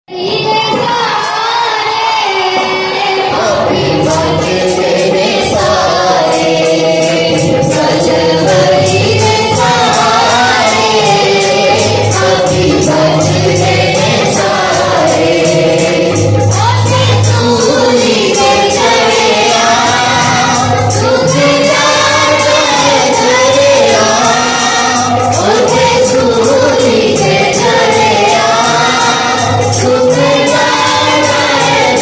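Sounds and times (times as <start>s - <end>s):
choir singing a hymn: 0.1s - 32.0s
sharp percussive hits: 0.2s - 32.0s.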